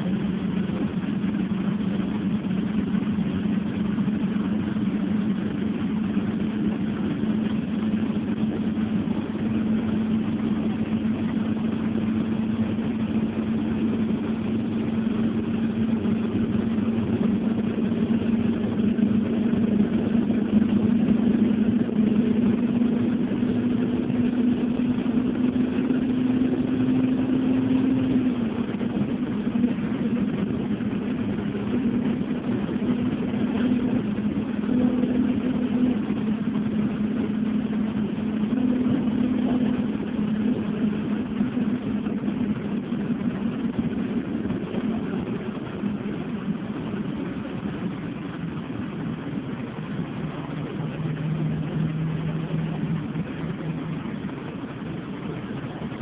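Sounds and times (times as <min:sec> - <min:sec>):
road noise: 0:00.0 - 0:56.0
vehicle engine hum: 0:00.0 - 0:56.0.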